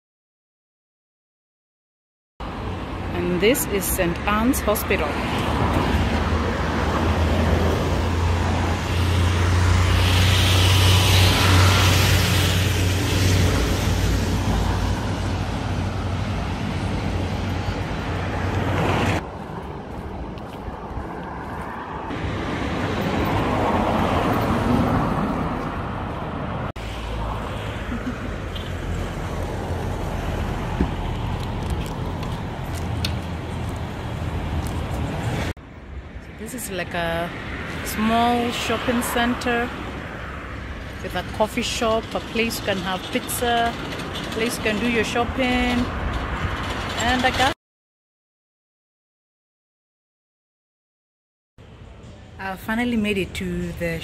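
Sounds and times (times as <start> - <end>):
cars passing: 2.4 - 47.6.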